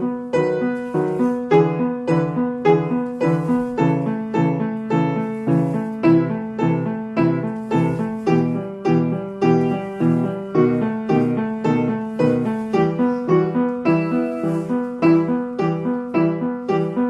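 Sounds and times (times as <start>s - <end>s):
piano playing chords: 0.0s - 17.0s.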